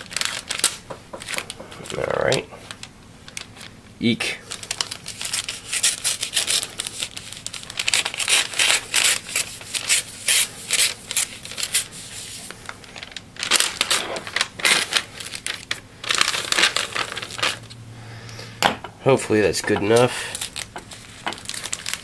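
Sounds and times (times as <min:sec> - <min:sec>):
paper crinkling and ripping: 0:00.0 - 0:03.7, 0:04.4 - 0:17.8, 0:19.9 - 0:22.0.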